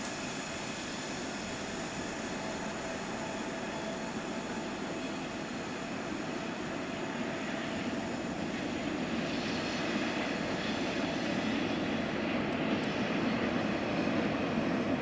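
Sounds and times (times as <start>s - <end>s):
distant train rumbling: 0.0s - 15.0s.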